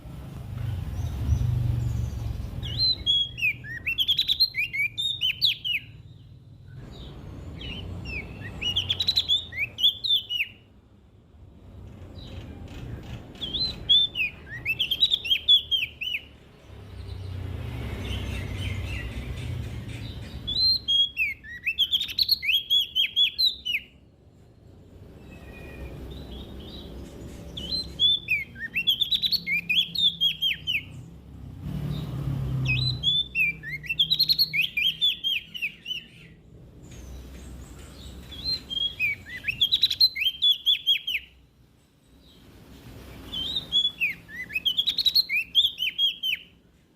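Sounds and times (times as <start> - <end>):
songbird chirping: 0.0 - 46.9.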